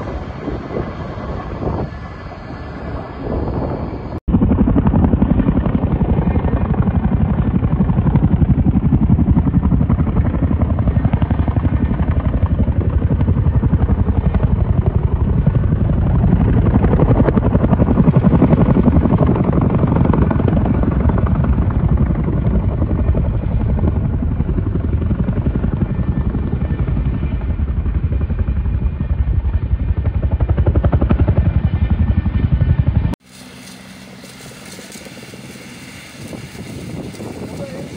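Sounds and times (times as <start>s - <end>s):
helicopter rotor beating: 0.0s - 37.9s.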